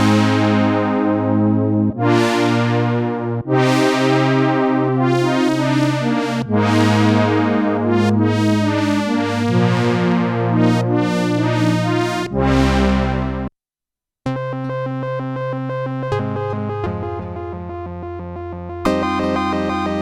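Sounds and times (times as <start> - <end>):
synthesizer chords over bass line: 0.0 - 13.5, 14.4 - 20.0.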